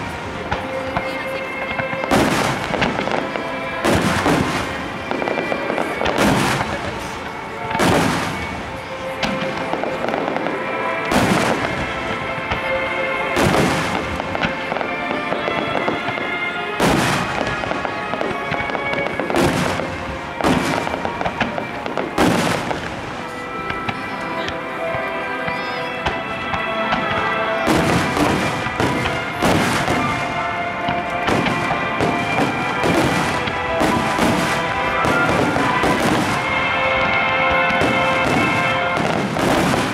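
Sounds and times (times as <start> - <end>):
fireworks booming: 0.0 - 39.9
music: 0.0 - 39.9.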